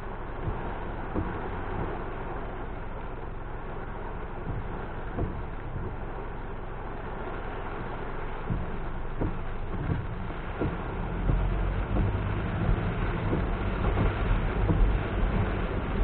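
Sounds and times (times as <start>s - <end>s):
rain tapping on car: 0.0s - 16.0s
road and engine rumble: 0.0s - 16.0s.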